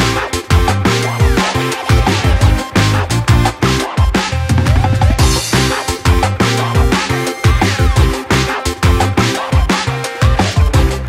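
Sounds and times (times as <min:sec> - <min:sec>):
bass line: 0:00.0 - 0:11.0
fast drum beat: 0:00.0 - 0:11.0.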